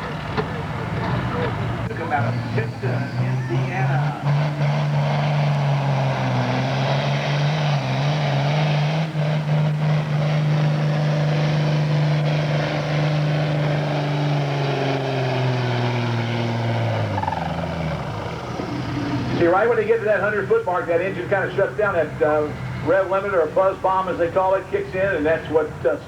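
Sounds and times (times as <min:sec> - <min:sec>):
tractor engine at full throttle: 0:00.0 - 0:26.0.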